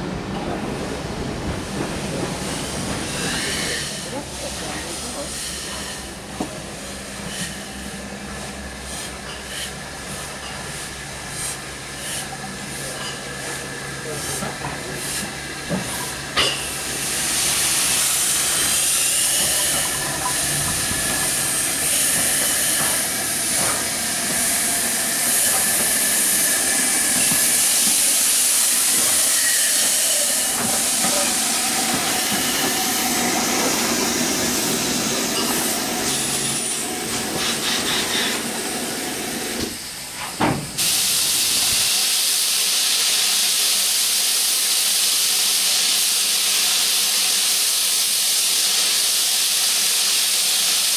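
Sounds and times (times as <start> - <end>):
rail noise: 0.0 - 50.9
steam locomotive moving slowly: 0.0 - 50.9
steady high steam hiss: 2.0 - 50.9.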